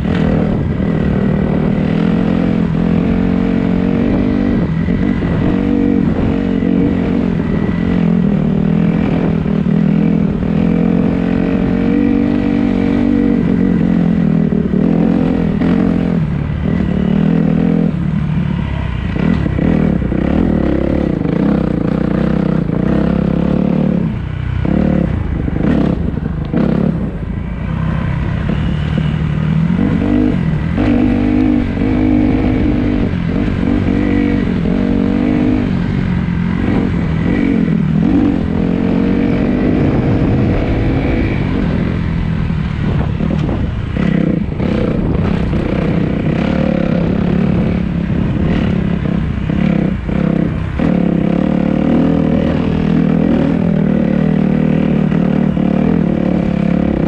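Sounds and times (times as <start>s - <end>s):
dirt bike engine revving: 0.0s - 18.0s, 18.6s - 57.0s.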